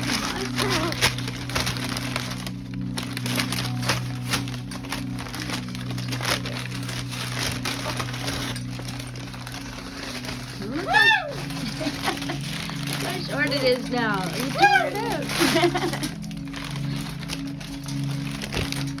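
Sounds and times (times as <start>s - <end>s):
parrot tearing and crumpling paper: 0.0s - 19.0s.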